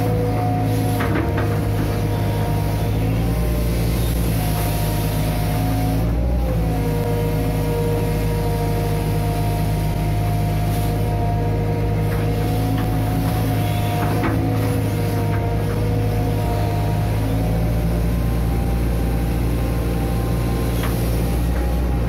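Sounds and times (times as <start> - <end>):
excavator engine and hydraulics hum: 0.0 - 22.0.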